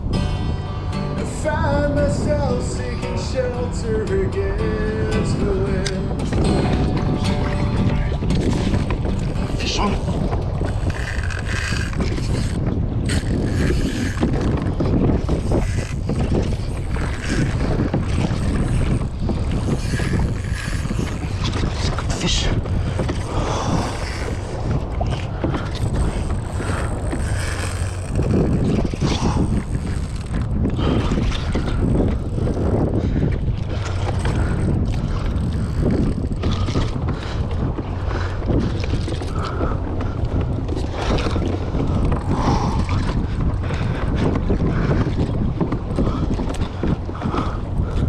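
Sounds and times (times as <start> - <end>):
wind buffeting microphone: 0.0 - 48.0
water sloshing around kayak: 1.1 - 48.0.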